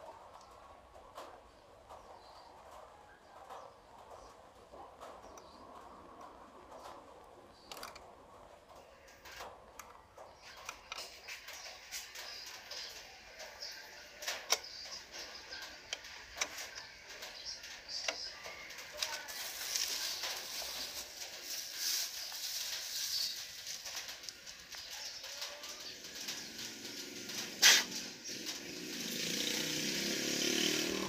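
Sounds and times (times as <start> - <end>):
birds calling faintly: 0.2 - 31.0.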